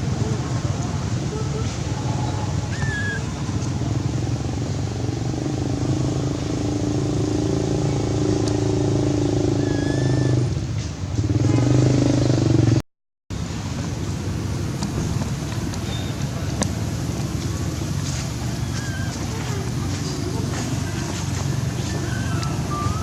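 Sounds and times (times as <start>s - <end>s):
motor engine running: 0.0s - 12.8s, 13.4s - 23.0s.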